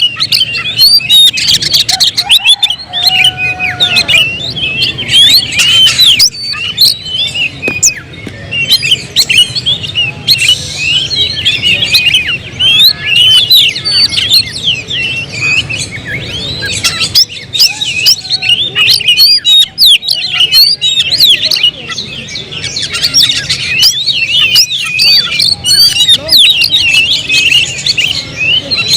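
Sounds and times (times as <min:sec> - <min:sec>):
songbirds chirping and whistling: 0:00.0 - 0:28.9.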